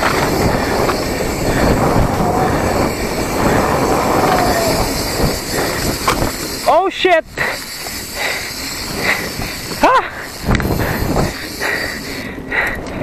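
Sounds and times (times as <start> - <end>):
bike rattling over rough ground: 0.0 - 13.0.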